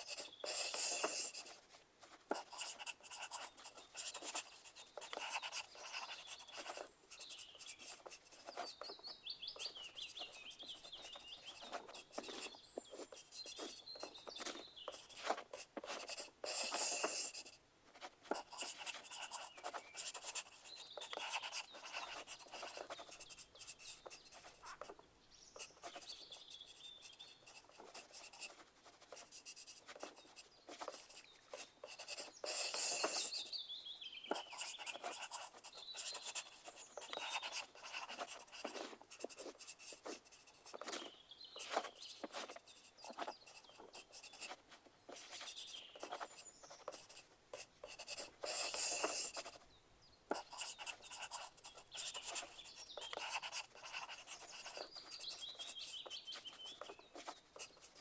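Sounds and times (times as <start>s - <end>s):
pencil scratching on paper: 0.0s - 9.0s, 9.6s - 25.0s, 25.6s - 33.6s, 34.3s - 49.6s, 50.3s - 58.0s.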